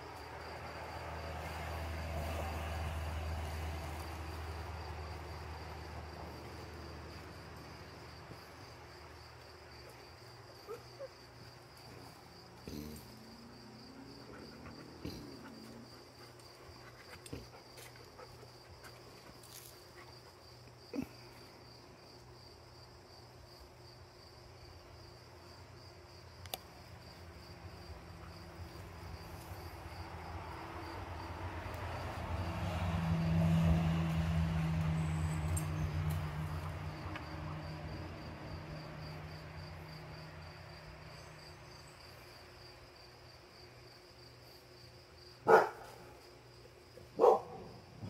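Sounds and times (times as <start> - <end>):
faint insect chirping: 0.0 - 48.0.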